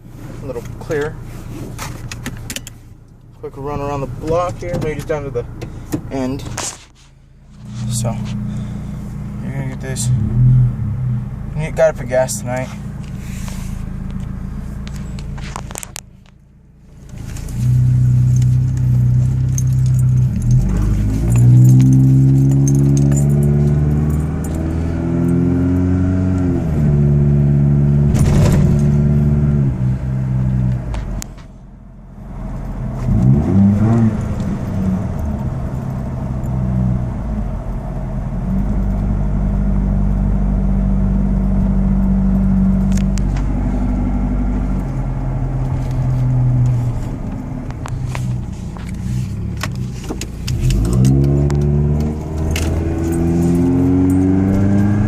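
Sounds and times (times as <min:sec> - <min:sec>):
truck exhaust while driving: 0:00.0 - 0:55.0.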